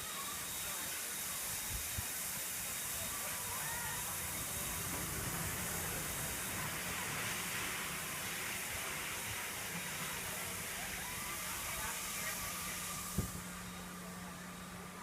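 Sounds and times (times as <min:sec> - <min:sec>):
water hiss: 0:00.0 - 0:13.9.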